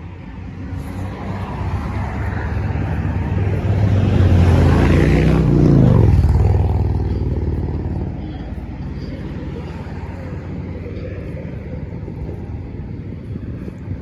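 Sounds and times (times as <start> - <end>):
vehicle driving past: 0.0 - 14.0.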